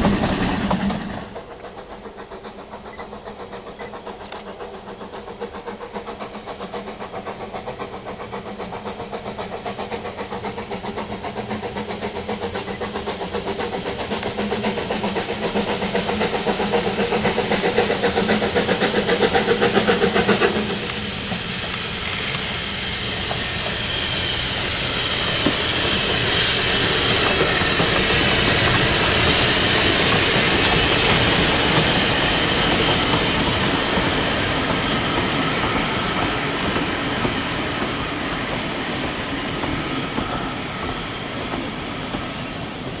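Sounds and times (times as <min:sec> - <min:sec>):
steam locomotive exhaust beats: 0:00.0 - 0:43.0
train coaches rumbling and clattering: 0:00.0 - 0:43.0.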